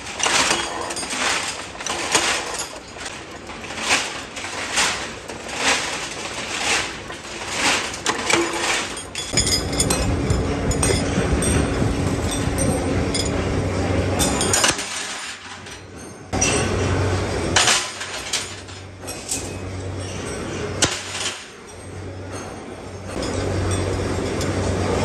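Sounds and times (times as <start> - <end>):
steel rods clattering: 0.0 - 25.0
workshop machine humming: 0.0 - 25.0.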